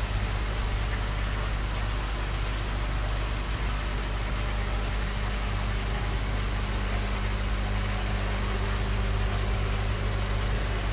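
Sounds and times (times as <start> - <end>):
steady machine hum: 0.0 - 10.9.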